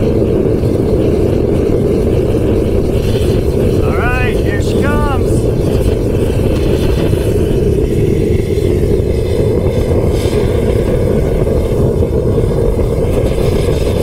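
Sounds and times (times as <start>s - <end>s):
gas furnace burner roaring: 0.0s - 14.0s.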